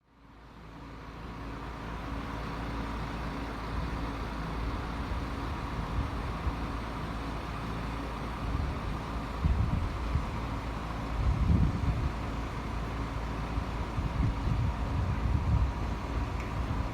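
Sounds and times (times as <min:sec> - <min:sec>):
road traffic rumble: 0:00.1 - 0:16.9.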